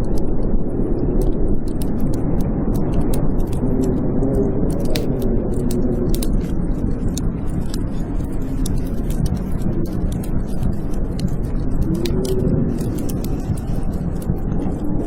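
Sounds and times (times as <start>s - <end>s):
blizzard wind howling: 0.0s - 15.0s
wood fire crackling and popping: 0.0s - 15.0s.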